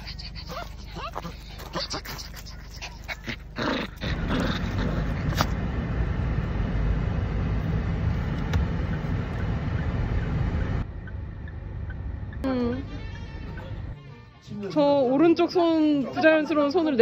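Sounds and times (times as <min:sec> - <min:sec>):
car cabin road and engine noise: 0:00.0 - 0:14.0.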